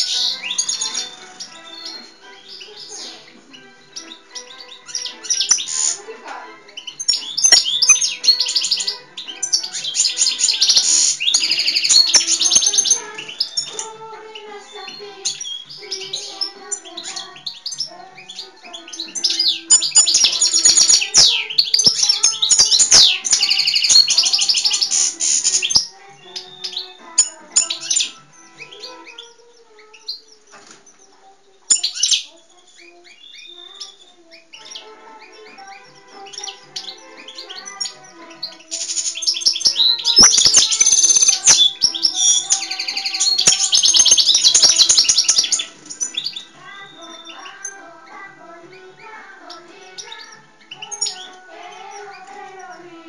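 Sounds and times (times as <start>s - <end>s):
goldfinch twittering song: 0.0s - 53.0s.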